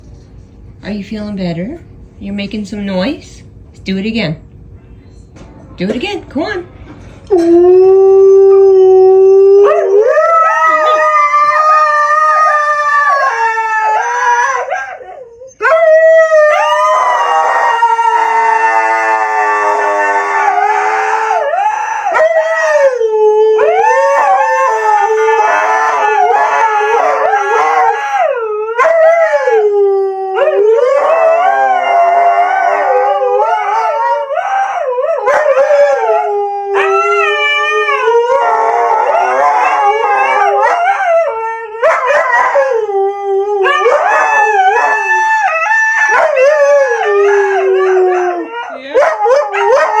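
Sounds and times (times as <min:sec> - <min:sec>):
dog howling: 0:07.3 - 0:50.0.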